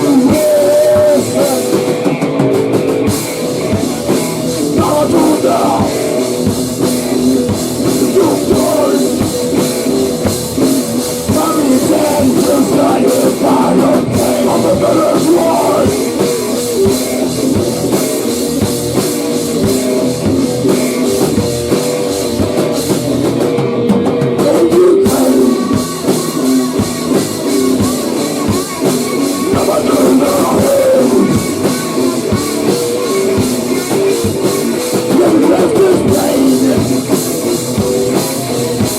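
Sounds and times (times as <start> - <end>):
heavy rock band playing: 0.0 - 38.9.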